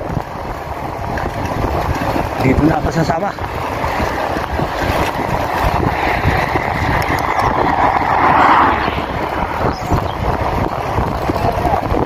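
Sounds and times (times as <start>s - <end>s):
wind rushing over microphone: 0.0s - 12.0s
car passing: 0.6s - 11.4s.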